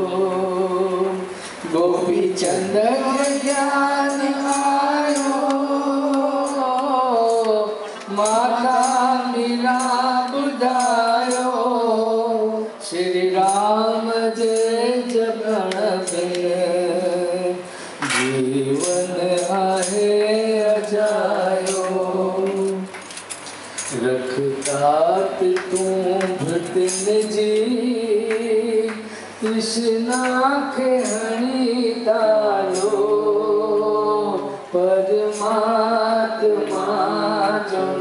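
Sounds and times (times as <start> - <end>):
man singing into a microphone: 0.0 - 23.0, 23.8 - 38.0
light percussion: 1.5 - 12.1, 12.8 - 38.0.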